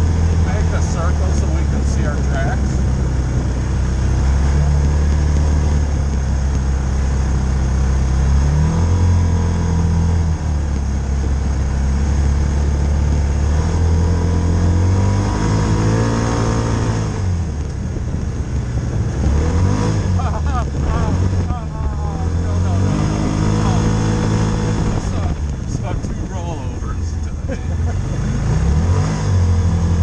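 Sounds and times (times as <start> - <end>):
utility vehicle engine running: 0.0 - 30.0.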